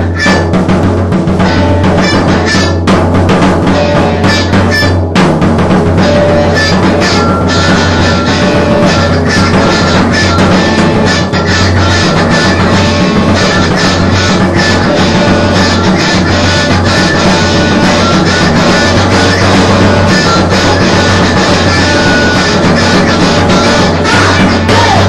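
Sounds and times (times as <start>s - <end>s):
distorted electric guitar: 0.0s - 25.0s
drum kit: 0.0s - 25.0s.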